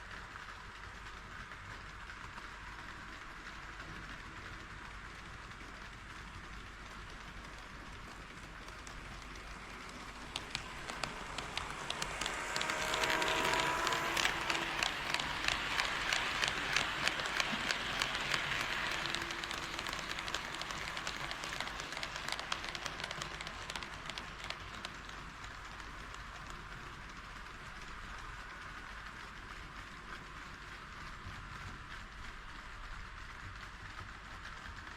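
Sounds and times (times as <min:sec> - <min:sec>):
model train wheels clicking: 0:00.0 - 0:34.9.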